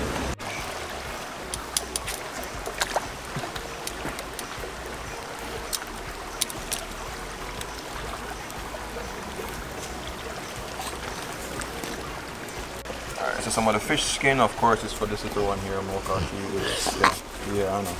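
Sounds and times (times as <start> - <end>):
wood fire crackling: 0.0 - 15.2.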